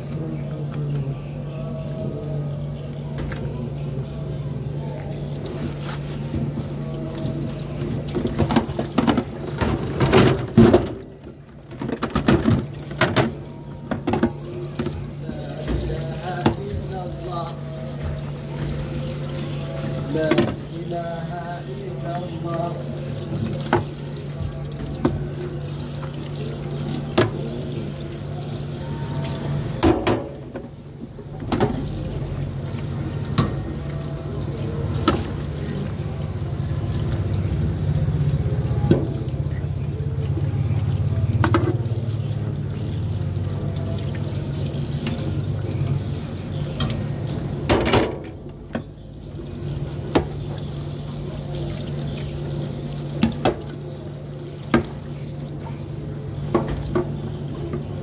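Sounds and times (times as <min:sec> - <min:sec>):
tap water splashing onto plates: 0:05.0 - 0:58.0.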